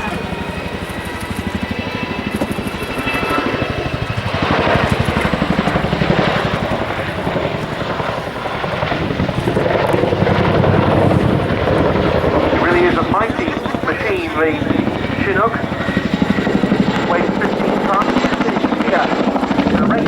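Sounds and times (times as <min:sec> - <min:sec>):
helicopter rotor thudding: 0:00.0 - 0:20.0
helicopter turbine noise: 0:00.0 - 0:20.0.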